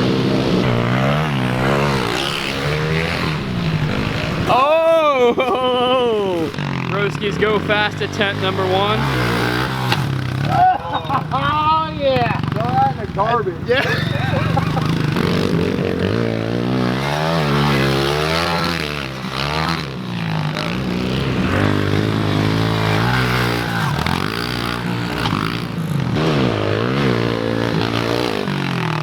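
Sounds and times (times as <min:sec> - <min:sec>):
small motorbike engine revving: 0:00.0 - 0:29.0.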